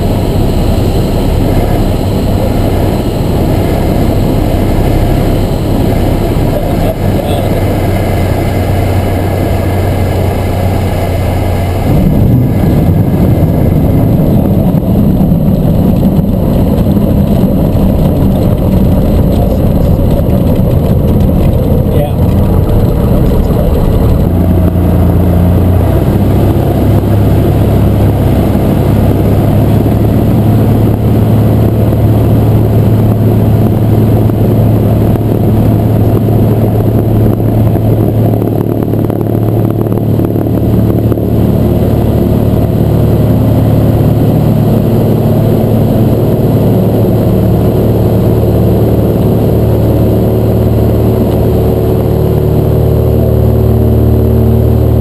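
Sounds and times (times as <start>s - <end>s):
plane engine and propeller running: 0.0s - 55.0s.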